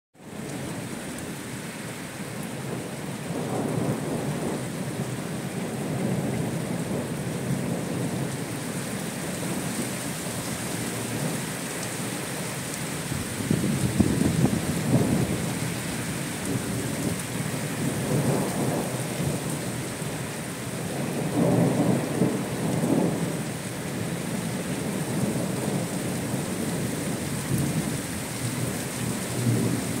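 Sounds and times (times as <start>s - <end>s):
heavy rain on gravel: 0.2s - 30.0s.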